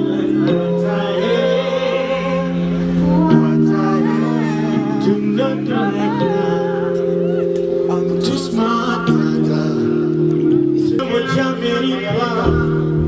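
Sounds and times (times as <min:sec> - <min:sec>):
live band playing held chords: 0:00.0 - 0:13.0
person singing wordless vocal: 0:00.0 - 0:13.0.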